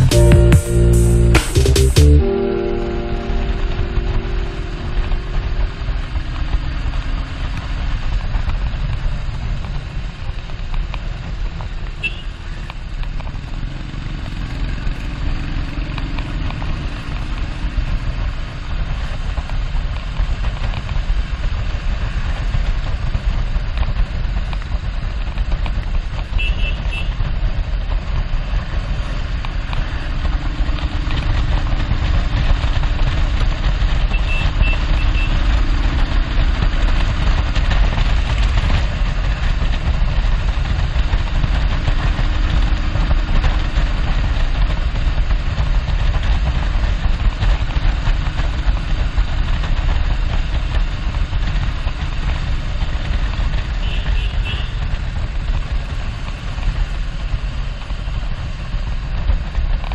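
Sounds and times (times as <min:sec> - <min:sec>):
motorcycle engine running: 0:00.0 - 0:59.9
wind rush on microphone: 0:05.2 - 0:59.9.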